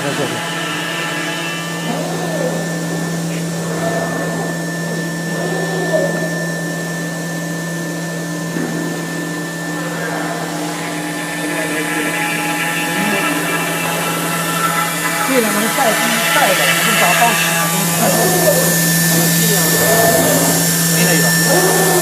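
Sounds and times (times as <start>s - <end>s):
high whine: 0.0s - 22.0s
wood router machine drone: 0.0s - 22.0s.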